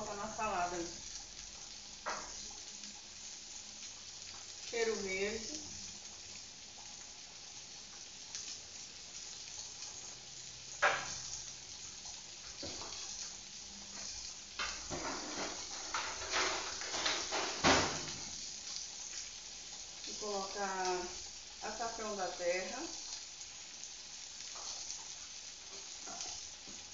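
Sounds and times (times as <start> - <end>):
beans sizzling in a pan: 0.0 - 26.9.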